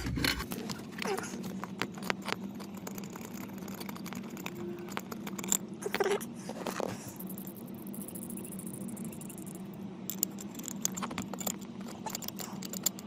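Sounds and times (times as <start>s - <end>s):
plastic connectors clicking and rattling: 0.0s - 6.1s, 7.4s - 13.0s
steady low hum: 0.0s - 13.0s.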